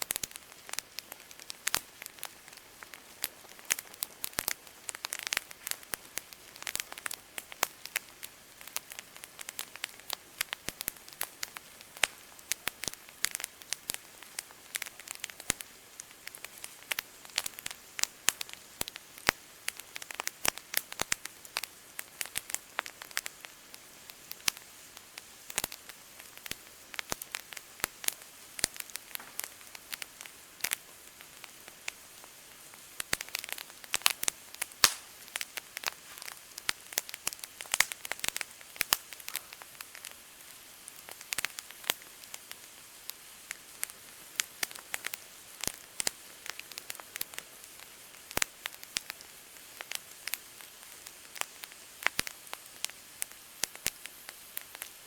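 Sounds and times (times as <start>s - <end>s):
wood campfire crackling: 0.0s - 55.0s.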